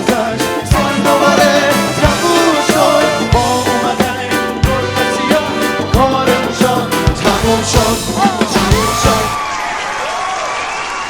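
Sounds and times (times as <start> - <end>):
person singing: 0.0 - 9.4
live ska band music: 0.0 - 9.5.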